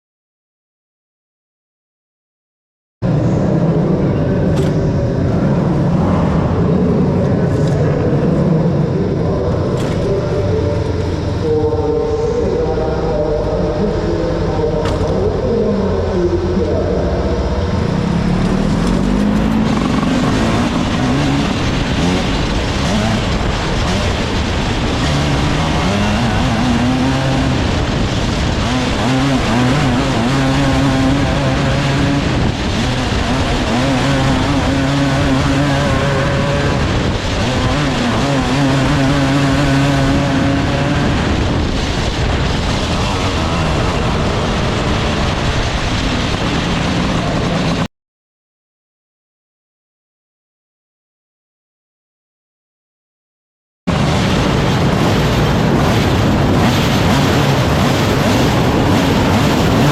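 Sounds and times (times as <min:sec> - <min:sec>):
vehicle engines revving: 0:03.0 - 0:47.9, 0:53.9 - 0:59.9.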